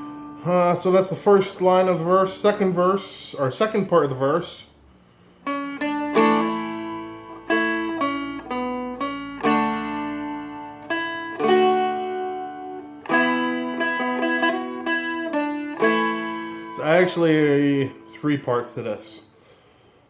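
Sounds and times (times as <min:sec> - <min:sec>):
plucked string melody notes: 0:00.0 - 0:02.8, 0:05.4 - 0:19.1
strummed chords: 0:00.0 - 0:04.4, 0:05.4 - 0:19.3.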